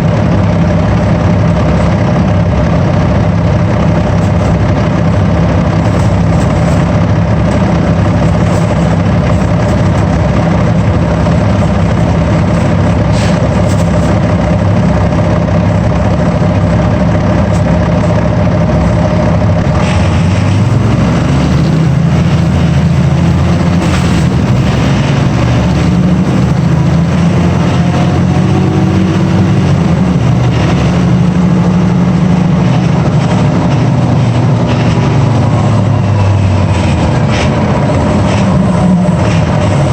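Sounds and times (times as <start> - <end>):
large vehicle engine running: 0.0 - 39.9.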